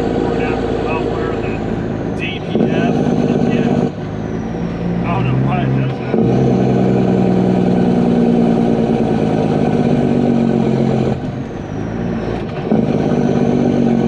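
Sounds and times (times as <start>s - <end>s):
diesel truck engine droning: 0.0s - 14.0s.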